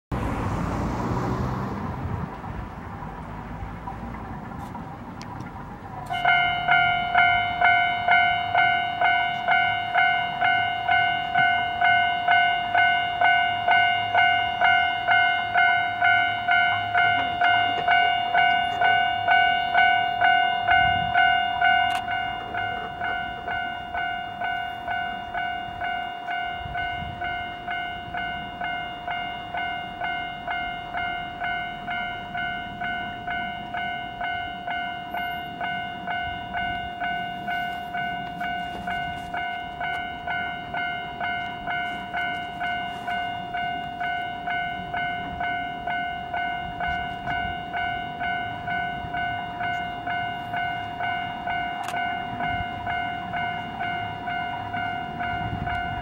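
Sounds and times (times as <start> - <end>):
level crossing warning bell: 5.5 - 56.0.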